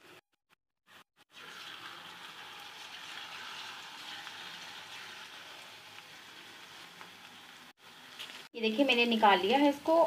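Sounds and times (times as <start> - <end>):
batter sizzling in hot oil: 0.9 - 10.0.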